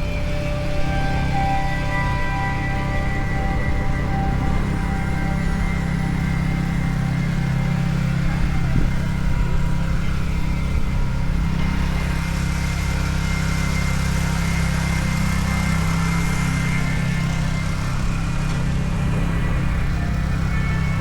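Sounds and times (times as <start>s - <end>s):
engine rumbling: 0.0s - 21.0s
street noise: 0.0s - 21.0s.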